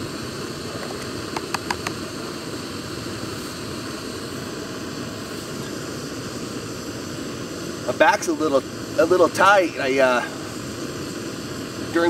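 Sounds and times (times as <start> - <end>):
camping stove hissing: 0.0 - 12.0.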